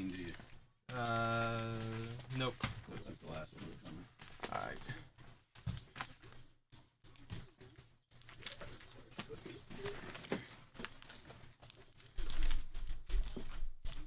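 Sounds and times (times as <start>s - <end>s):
crinkling handling noise: 0.0s - 14.0s.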